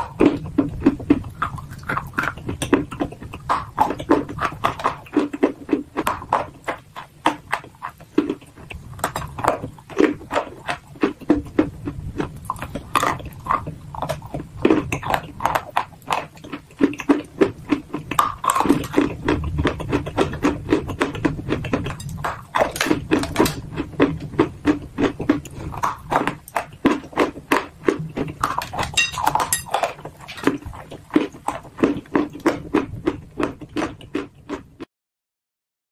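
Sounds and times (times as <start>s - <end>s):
chewing dry clay crunches: 0.0s - 34.9s.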